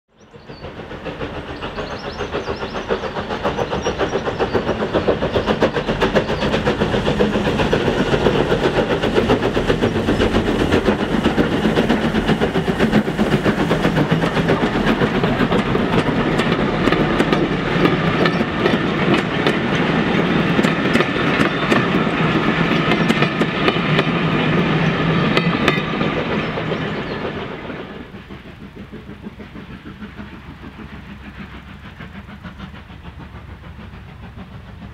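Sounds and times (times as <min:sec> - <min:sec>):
steam train passing: 0:00.1 - 0:34.9
wheels clattering over rail joints: 0:00.5 - 0:30.8.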